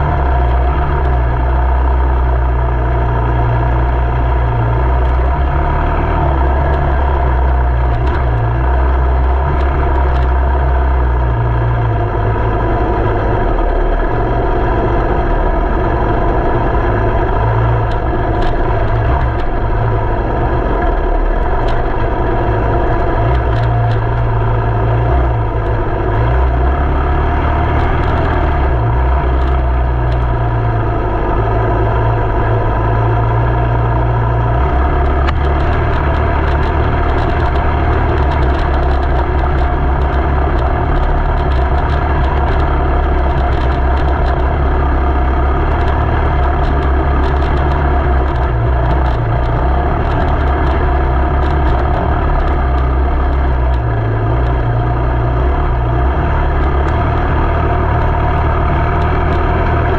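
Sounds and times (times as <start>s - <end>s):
engine running with low rumble: 0.0s - 59.9s.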